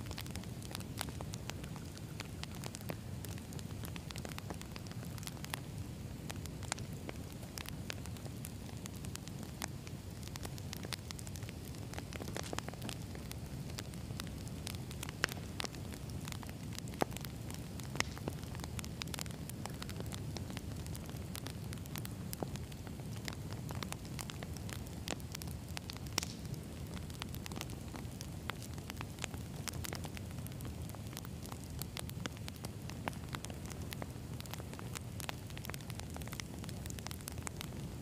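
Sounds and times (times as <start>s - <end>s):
campfire crackles and pops: 0.0s - 38.0s
low rumble of flames: 0.0s - 38.0s.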